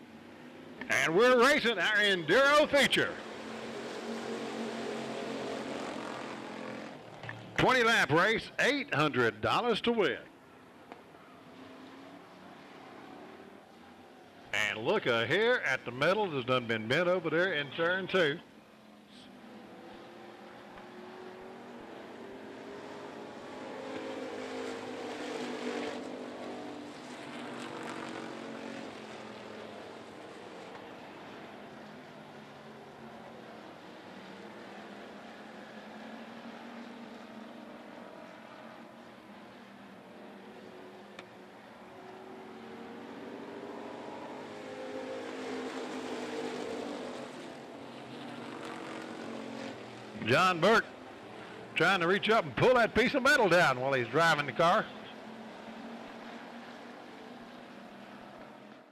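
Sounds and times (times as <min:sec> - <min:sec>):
race car engines: 0:00.0 - 0:58.9.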